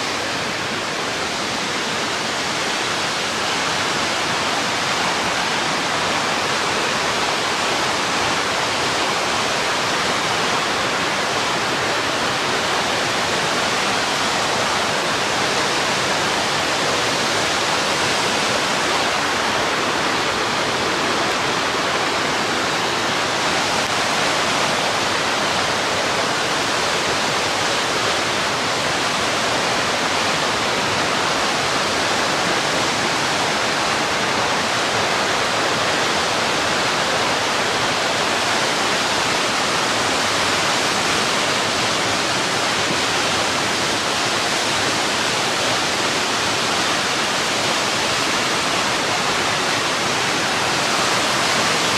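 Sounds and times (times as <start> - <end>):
water rushing over rocks: 0.0 - 51.9.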